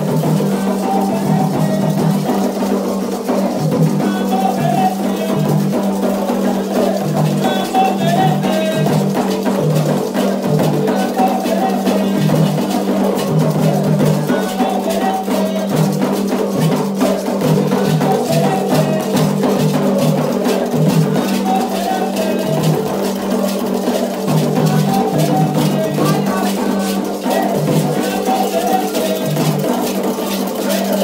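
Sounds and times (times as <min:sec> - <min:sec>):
hand drums playing: 0:00.0 - 0:31.0
struck bell rhythm: 0:00.0 - 0:31.0.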